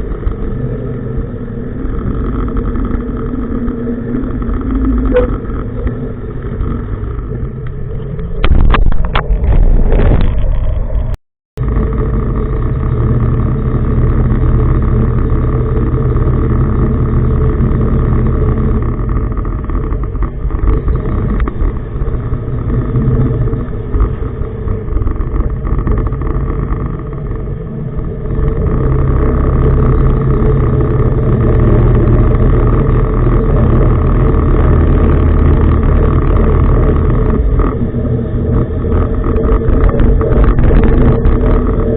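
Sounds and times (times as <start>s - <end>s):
tugboat engines droning: 0.0s - 9.8s, 10.4s - 41.9s.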